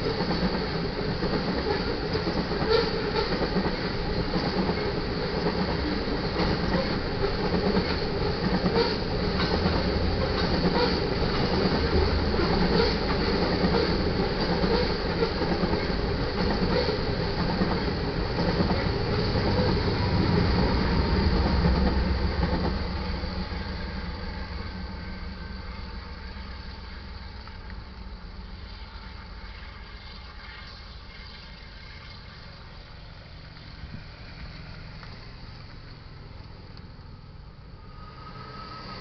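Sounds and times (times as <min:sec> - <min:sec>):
train wheels clicking on rail joints: 0:00.0 - 0:37.2
train low rumble: 0:00.0 - 0:39.0.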